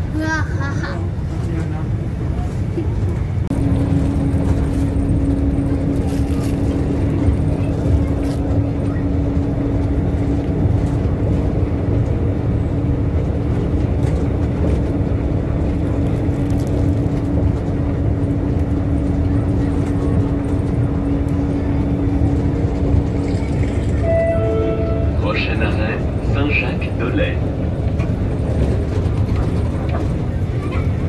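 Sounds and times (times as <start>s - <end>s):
constant low hum: 0.0s - 31.0s
tram ride rumble: 0.0s - 31.0s.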